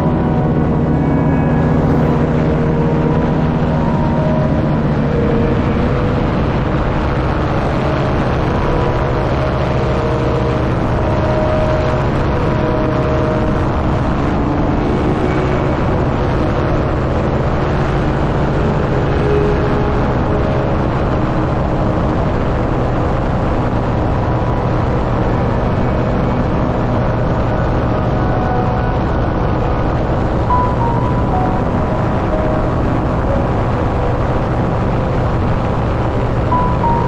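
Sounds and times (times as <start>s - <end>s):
paramotor engine and propeller: 0.0s - 37.0s.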